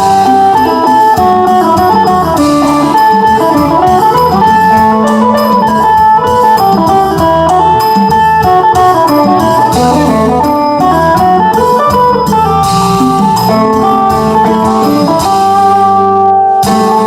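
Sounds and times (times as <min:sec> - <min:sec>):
band backing: 0:00.0 - 0:17.0
plucked lute melody: 0:00.0 - 0:17.0
steady drum beat: 0:00.0 - 0:17.0.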